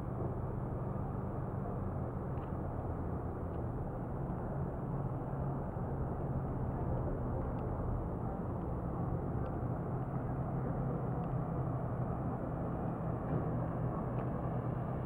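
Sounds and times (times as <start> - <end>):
motor vehicles rumbling: 0.0 - 15.0.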